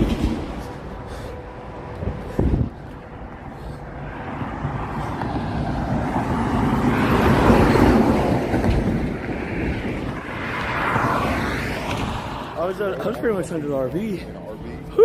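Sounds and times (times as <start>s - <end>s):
vehicle passing at speed: 0.0s - 13.8s.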